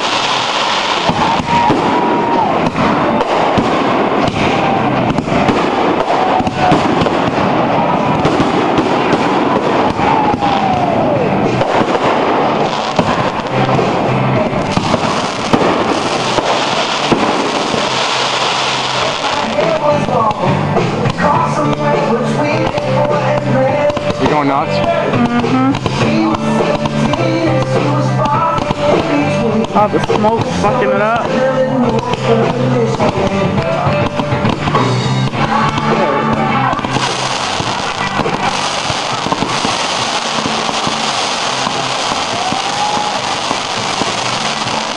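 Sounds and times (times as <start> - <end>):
fireworks crackling and popping: 0.0 - 44.9
music playing: 0.0 - 44.9.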